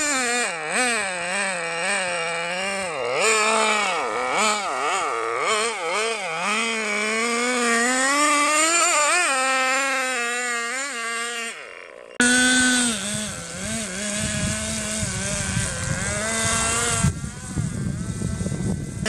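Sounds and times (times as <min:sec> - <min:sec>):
small model engine revving: 0:00.0 - 0:19.0.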